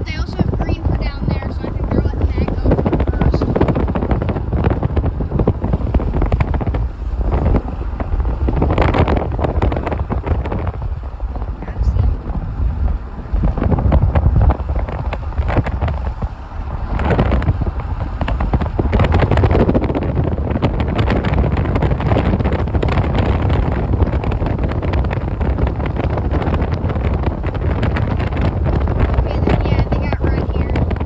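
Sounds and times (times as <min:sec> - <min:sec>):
vehicle rumble: 0:00.0 - 0:31.0
wind buffeting microphone: 0:00.0 - 0:31.0.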